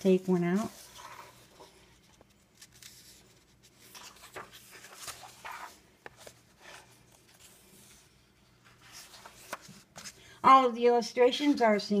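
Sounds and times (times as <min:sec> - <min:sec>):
paper pages rustling and turning: 0:00.0 - 0:10.3.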